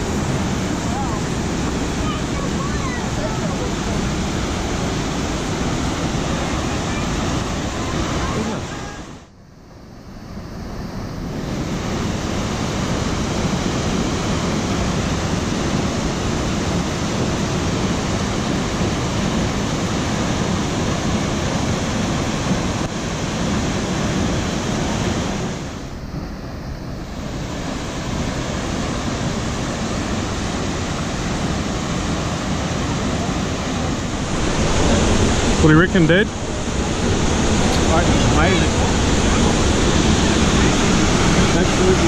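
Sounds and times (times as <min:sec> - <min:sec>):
waterfall rushing over boulders: 0:00.0 - 0:09.3, 0:10.6 - 0:42.0.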